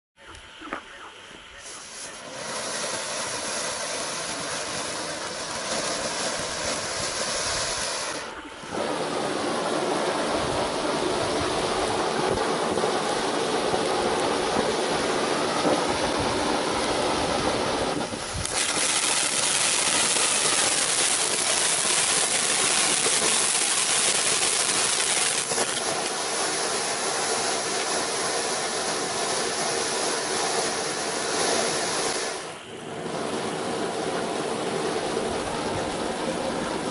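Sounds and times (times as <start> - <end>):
firework fountain hissing: 0.2 - 36.9.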